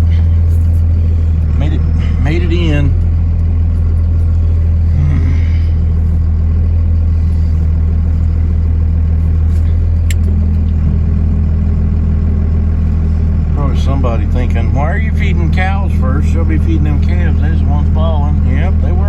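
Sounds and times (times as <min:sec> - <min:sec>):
higher hum: 0:00.0 - 0:19.0
truck engine droning: 0:00.0 - 0:19.0.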